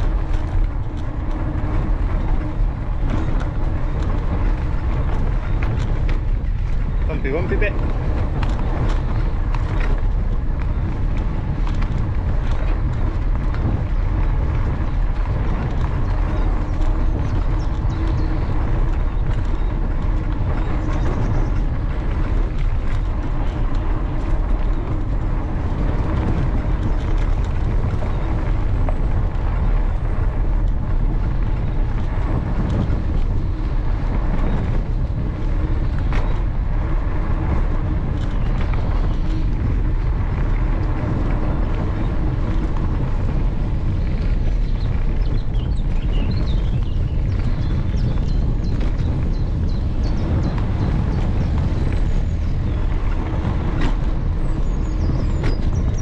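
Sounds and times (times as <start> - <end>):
bike clicks and rattles: 0.0 - 56.0
tyres rolling over path: 0.0 - 56.0
wind on microphone: 0.0 - 56.0.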